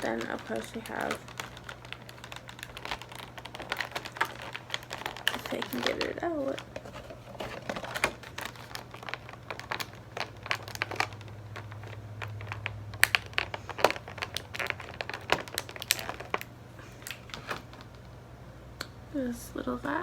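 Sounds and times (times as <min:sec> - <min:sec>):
plastic packaging crinkling: 0:00.0 - 0:18.2.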